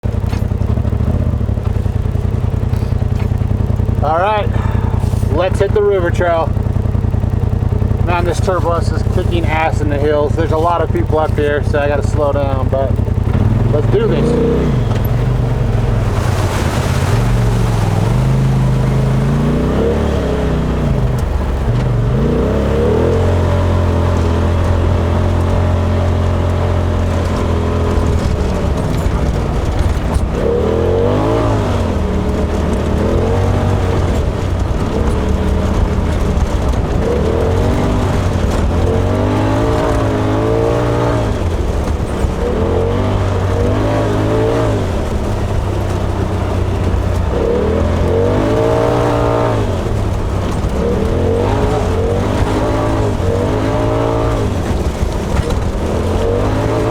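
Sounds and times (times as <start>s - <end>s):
engine revving: 0.0s - 56.9s.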